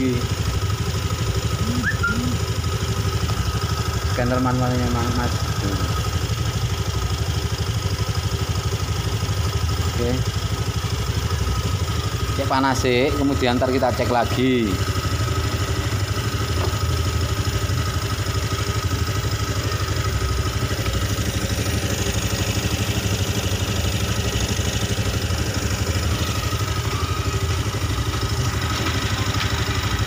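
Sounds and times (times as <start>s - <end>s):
scooter engine idling: 0.0s - 30.0s.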